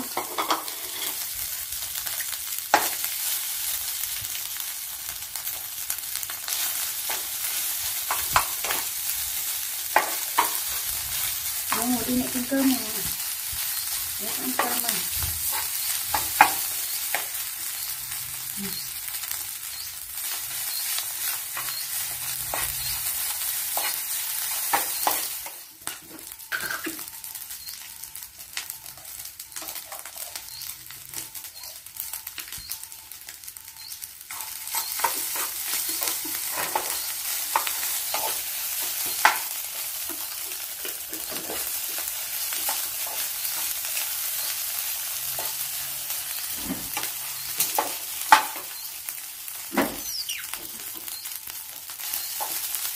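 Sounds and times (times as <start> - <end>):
rice sizzling in a pan: 0.0 - 52.9.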